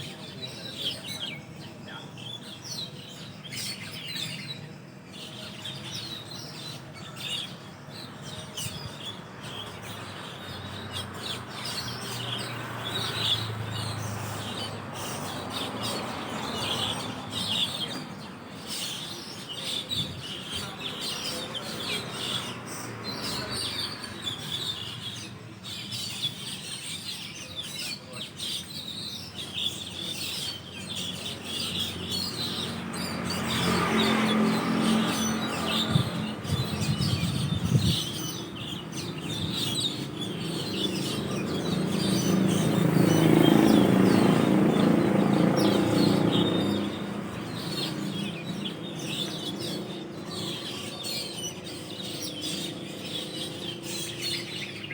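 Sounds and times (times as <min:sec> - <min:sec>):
starlings chattering: 0:00.0 - 0:54.9.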